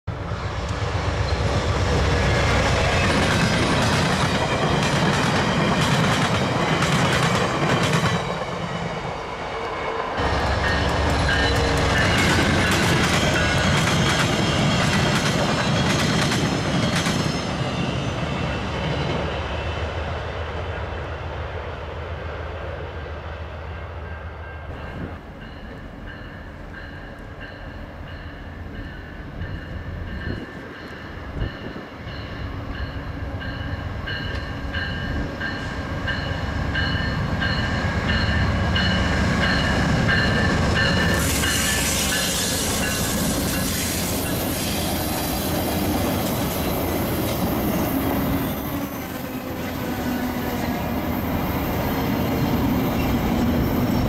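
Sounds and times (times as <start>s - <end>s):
passenger train passing: 0.0s - 54.0s.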